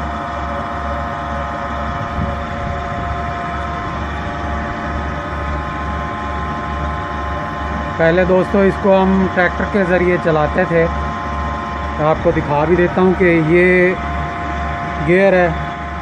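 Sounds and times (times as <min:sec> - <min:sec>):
electric motor pump humming: 0:00.0 - 0:16.0.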